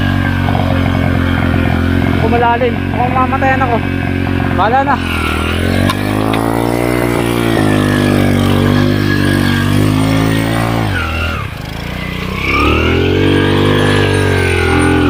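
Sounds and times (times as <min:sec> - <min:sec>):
motorcycle engine revving hard: 0:00.0 - 0:15.0.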